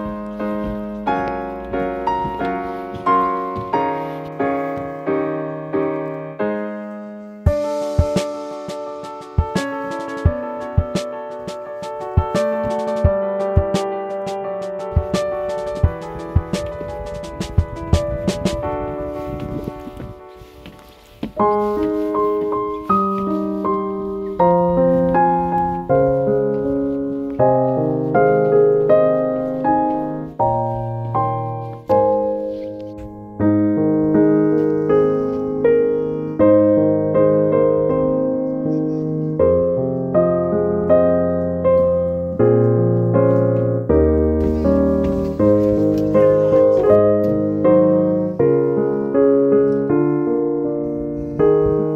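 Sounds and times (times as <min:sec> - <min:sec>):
slow piano chords: 0:00.0 - 0:51.9.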